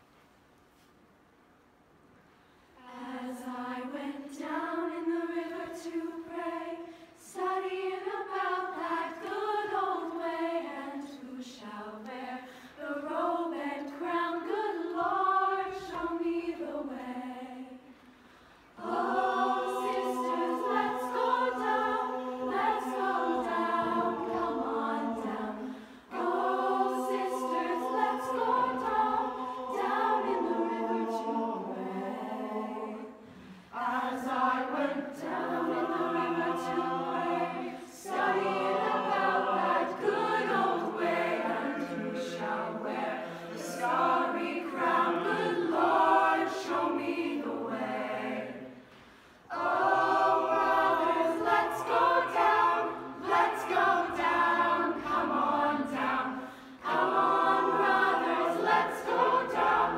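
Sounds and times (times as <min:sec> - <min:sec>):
choir singing unaccompanied: 0:02.8 - 0:18.0, 0:18.7 - 0:48.9, 0:49.5 - 0:59.9.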